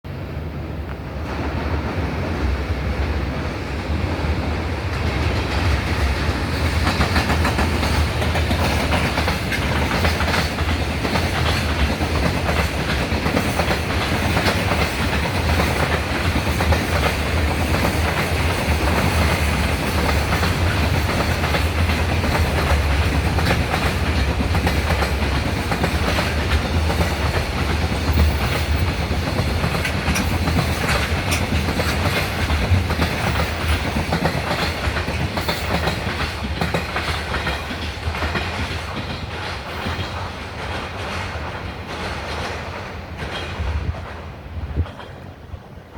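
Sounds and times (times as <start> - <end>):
freight train rumbling past: 0.0 - 45.9
wheels clicking over rail joints: 4.8 - 45.8.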